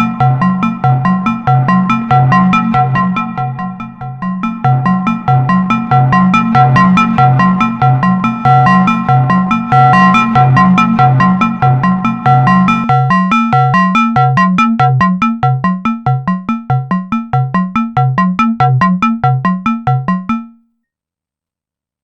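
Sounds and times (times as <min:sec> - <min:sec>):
synthesizer sequenced plucky notes: 0:00.0 - 0:20.6.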